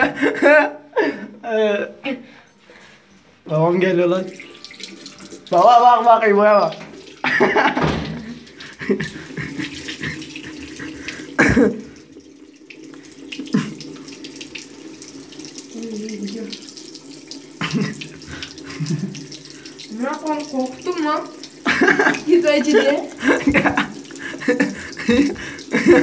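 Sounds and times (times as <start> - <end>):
tap water running into sink: 4.1 - 26.0
water splashing on face: 4.2 - 26.0.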